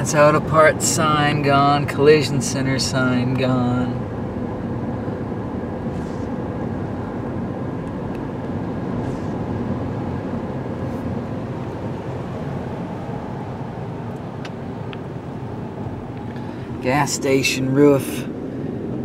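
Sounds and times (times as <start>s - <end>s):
car road and engine noise: 0.0s - 19.0s
tyres on wet road: 0.0s - 19.0s.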